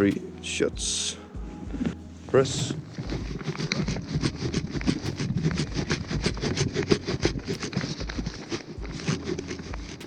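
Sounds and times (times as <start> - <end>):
clothing rustling: 1.4 - 10.0
footsteps crunching through forest litter: 1.4 - 10.0.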